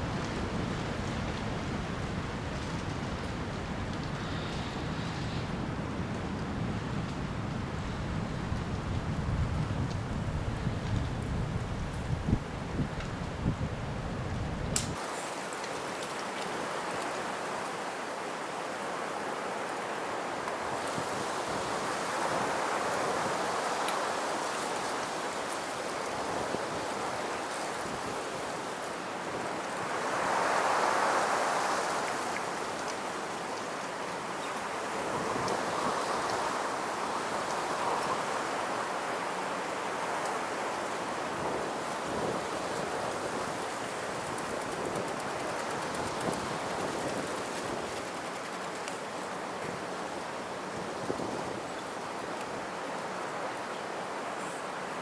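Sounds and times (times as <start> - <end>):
wind gusting through trees: 0.0 - 55.0.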